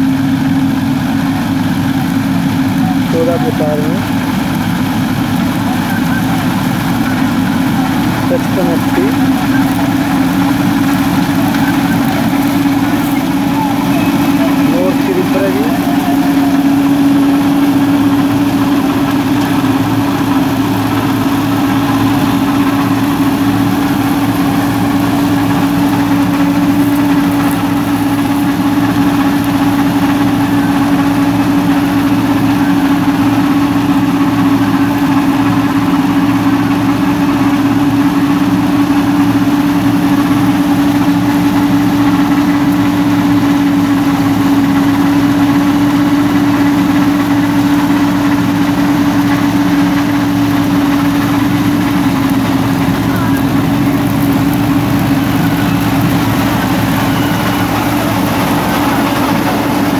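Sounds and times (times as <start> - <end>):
tractor diesel engine drone: 0.0 - 59.9.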